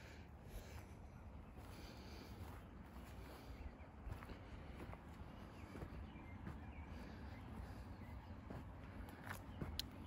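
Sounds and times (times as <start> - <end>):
footsteps on dirt trail: 0.0 - 10.0
steady low rumble: 0.0 - 10.0.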